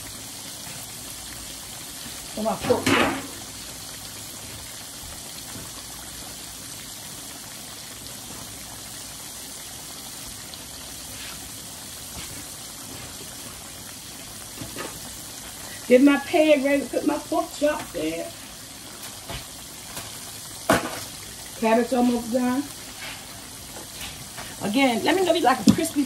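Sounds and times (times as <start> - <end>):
pork chops sizzling in oil: 0.0 - 26.0.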